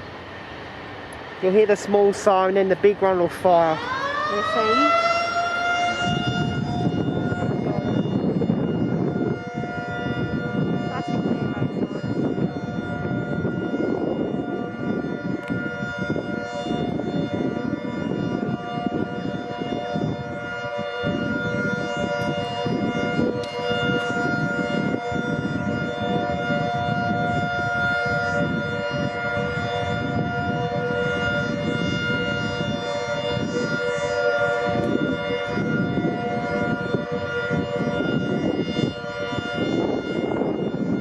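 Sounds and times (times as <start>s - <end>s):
air raid sirens: 0.0s - 41.0s.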